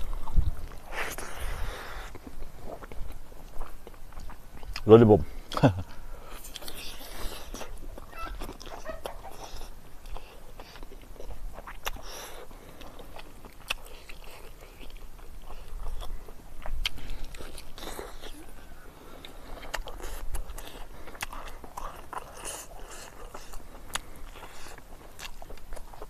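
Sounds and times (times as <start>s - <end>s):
person chewing meat: 0.0s - 26.0s.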